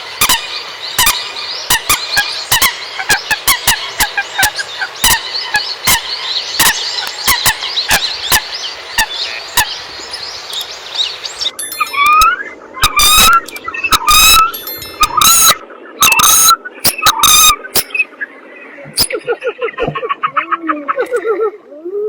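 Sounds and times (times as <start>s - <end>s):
chorus of high chirps: 0.0s - 21.2s.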